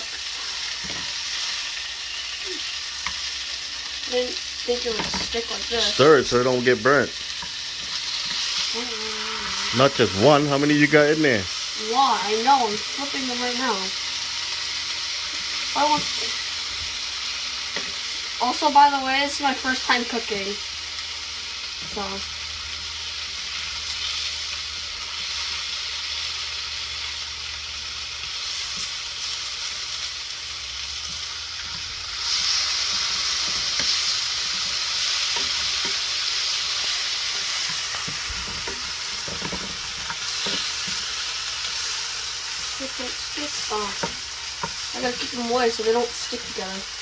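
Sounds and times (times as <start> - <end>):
shrimp sizzling in hot oil: 0.0 - 47.0.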